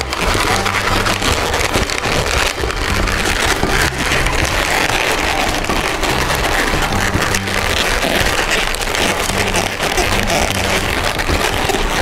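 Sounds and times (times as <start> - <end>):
balloons squeaking being twisted: 0.0 - 12.0
upbeat electronic music: 0.0 - 12.0.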